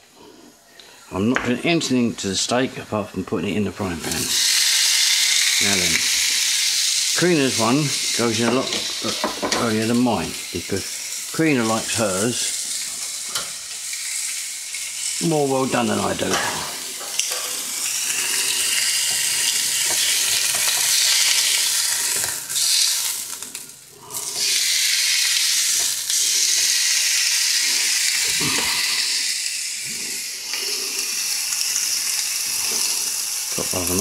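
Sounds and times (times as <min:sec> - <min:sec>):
steak sizzling in a frying pan: 0:03.8 - 0:34.0.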